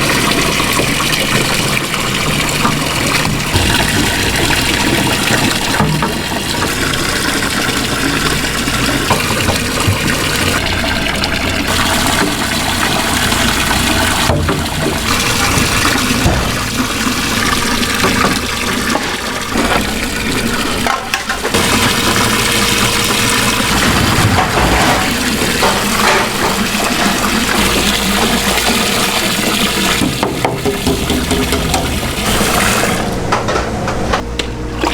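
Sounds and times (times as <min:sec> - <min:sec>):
water running and splashing: 0:00.0 - 0:33.1.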